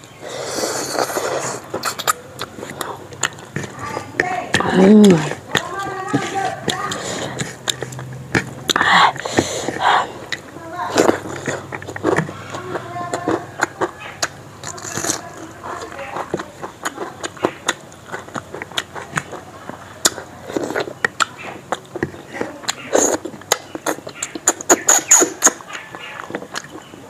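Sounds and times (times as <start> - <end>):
chewing and lip smacking: 0.0 - 27.0.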